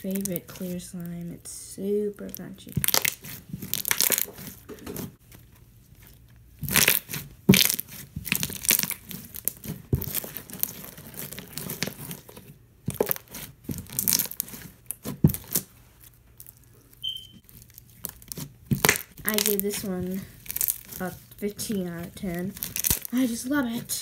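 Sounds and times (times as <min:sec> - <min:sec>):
slime crackling and crunching: 0:00.0 - 0:24.0.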